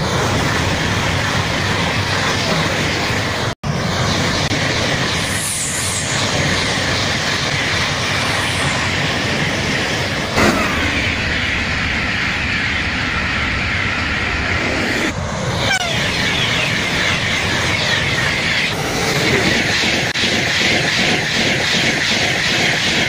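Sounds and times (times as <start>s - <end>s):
high-speed train passing: 0.0s - 23.0s.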